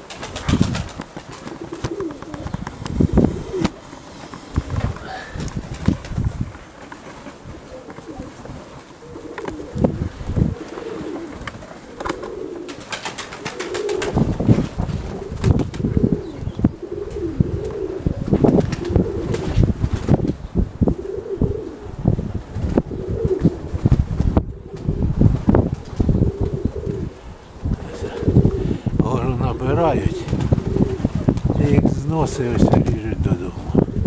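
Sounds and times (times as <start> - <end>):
pigeons cooing: 0.0 - 34.0
wind rumbling on microphone: 0.0 - 34.0.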